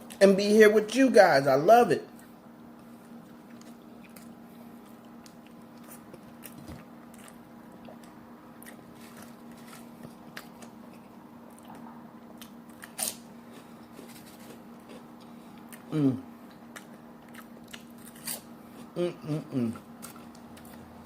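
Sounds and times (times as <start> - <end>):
steady low hum: 0.0 - 21.0
chewing with crunches: 2.1 - 21.0.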